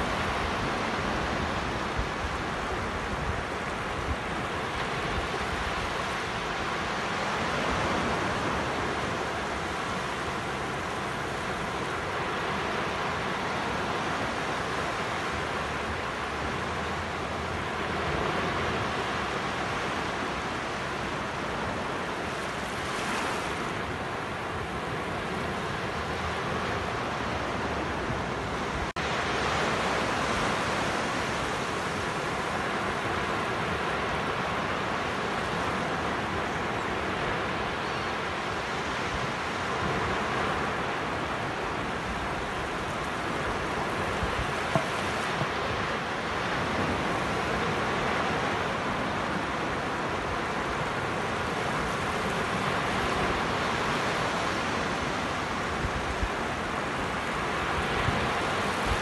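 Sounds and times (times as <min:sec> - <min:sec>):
waves breaking on sandy beach: 0:00.0 - 0:59.0.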